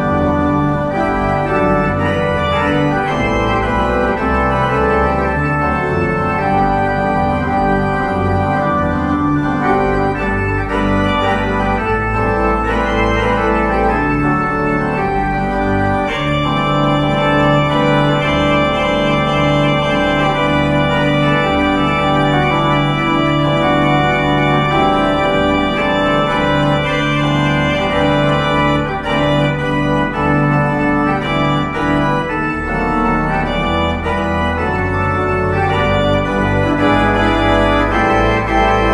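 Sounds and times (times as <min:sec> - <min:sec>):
organ music: 0:00.0 - 0:38.9.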